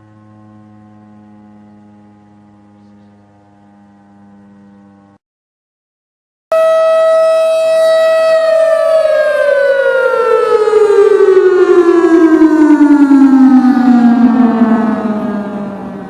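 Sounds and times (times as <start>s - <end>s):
siren tone winding down: 0.0s - 5.2s, 6.5s - 16.0s.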